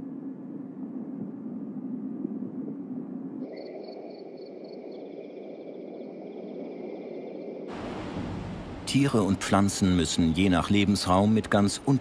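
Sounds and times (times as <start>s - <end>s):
soft outdoor wash: 0.0s - 12.0s.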